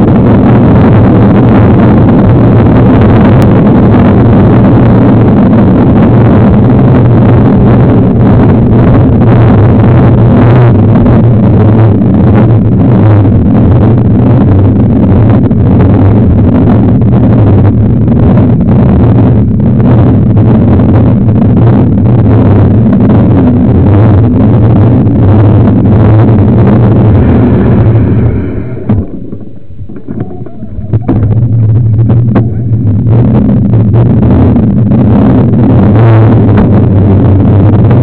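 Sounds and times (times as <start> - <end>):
wind rush on microphone: 0.0 - 38.0.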